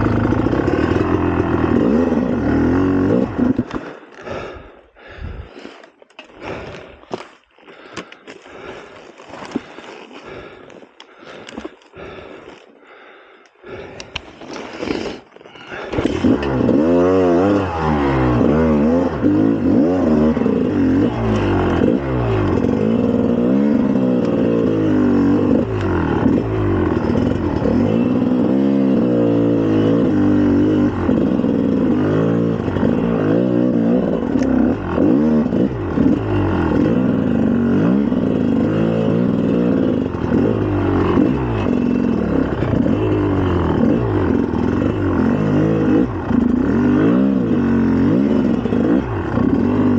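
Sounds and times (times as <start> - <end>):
motorcycle engine revving: 0.0 - 5.2, 14.9 - 49.9.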